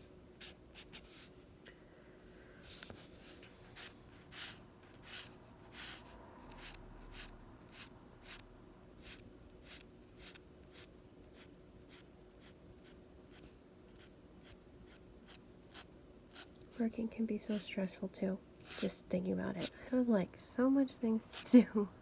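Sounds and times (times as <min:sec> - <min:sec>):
pencil strokes scratching paper: 0:00.0 - 0:01.4, 0:02.6 - 0:08.4, 0:09.0 - 0:17.9, 0:18.6 - 0:19.8, 0:21.1 - 0:21.6.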